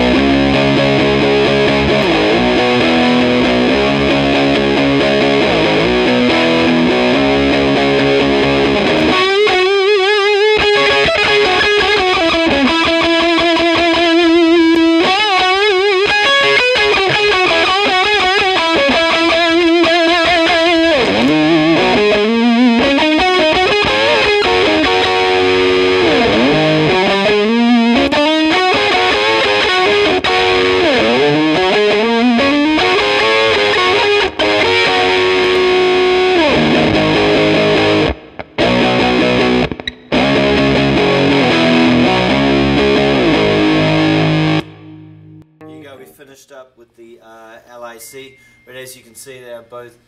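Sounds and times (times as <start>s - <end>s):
distorted electric guitar: 0.0s - 46.2s.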